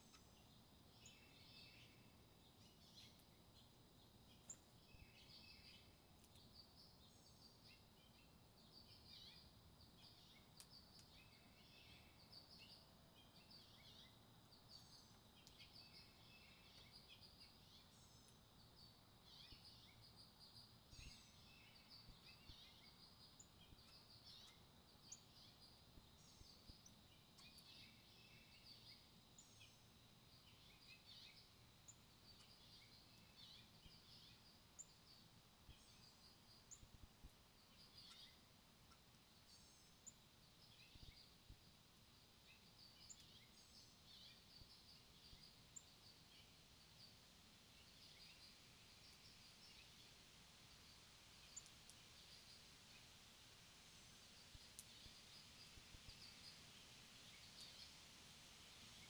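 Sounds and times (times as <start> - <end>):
small birds chirping: 0.0 - 59.0
soft outdoor hum: 0.0 - 59.0.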